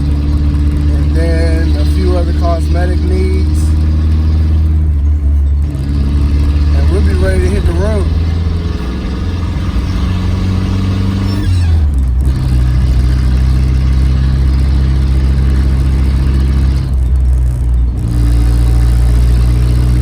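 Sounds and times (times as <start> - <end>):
car engine running: 0.0 - 20.0
road and tyre noise: 0.0 - 20.0.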